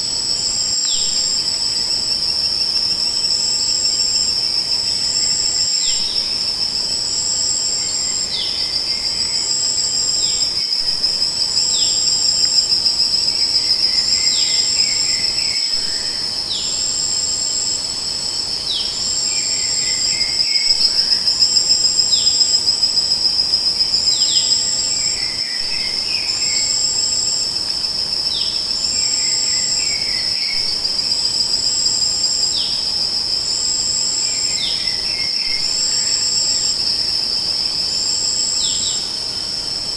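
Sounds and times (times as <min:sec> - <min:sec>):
high-pitched insect trill: 0:00.0 - 0:39.9
insect pulsing chirps: 0:00.1 - 0:39.9.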